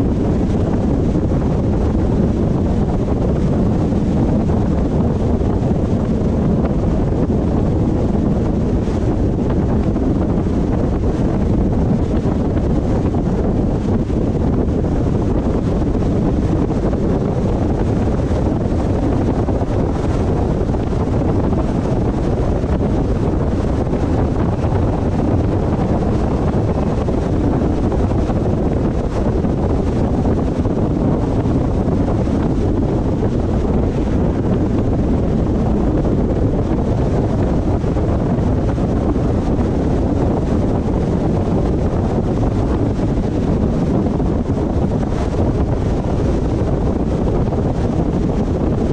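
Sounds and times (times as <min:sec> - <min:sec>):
car tyre and wind noise: 0:00.0 - 0:48.9.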